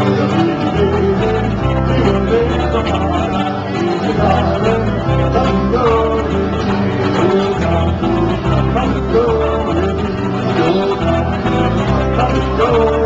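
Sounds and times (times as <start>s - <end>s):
men singing: 0.0s - 13.0s
strummed guitars: 0.0s - 13.0s.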